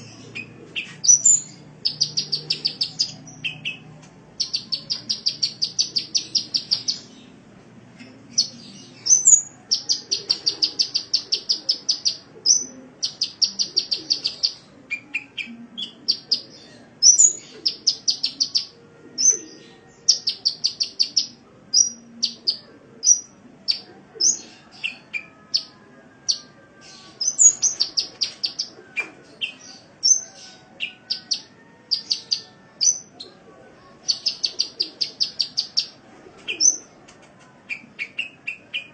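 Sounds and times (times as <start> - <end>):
bird singing trills: 0.0 - 7.4, 8.3 - 36.9, 37.7 - 38.9.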